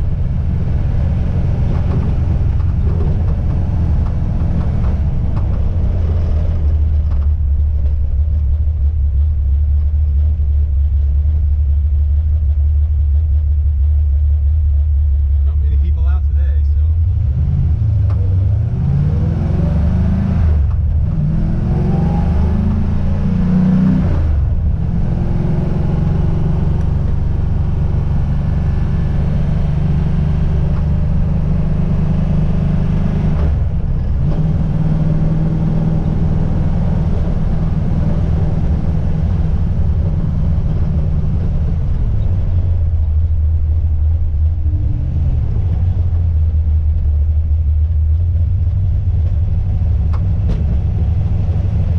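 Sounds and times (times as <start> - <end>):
car engine accelerating through gears: 0.0 - 14.4, 16.9 - 51.9
road noise: 0.0 - 51.9.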